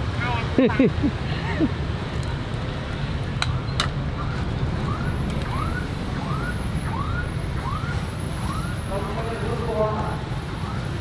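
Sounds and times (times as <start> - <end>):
street traffic rumbling: 0.0 - 11.0.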